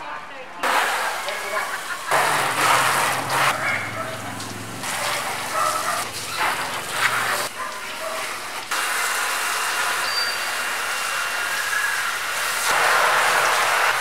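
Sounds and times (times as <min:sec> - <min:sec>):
pressure washer spray hissing: 0:00.6 - 0:14.0.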